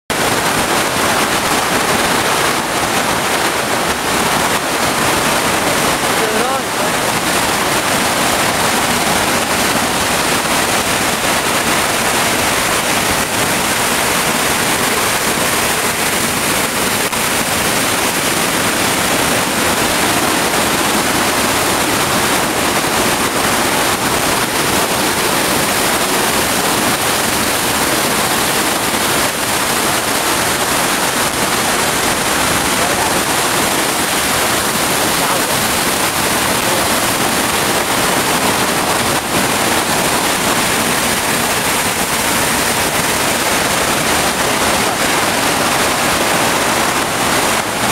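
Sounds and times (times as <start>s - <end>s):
waterfall crashing onto rocks: 0.1s - 47.9s.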